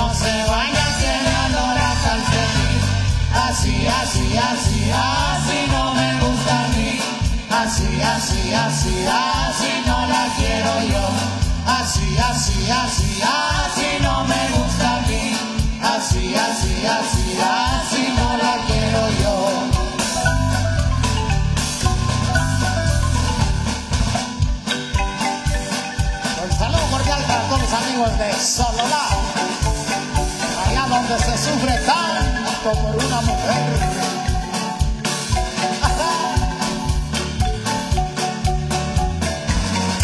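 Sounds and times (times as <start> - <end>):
bass and drum kit beat: 0.0 - 40.0
marimba orchestra playing: 0.0 - 40.0.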